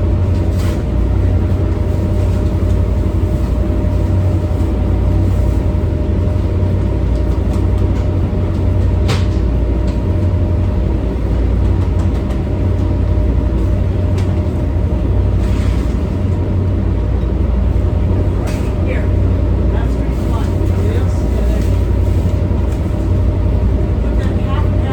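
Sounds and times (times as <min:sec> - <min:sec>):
diesel engines droning: 0:00.0 - 0:24.9.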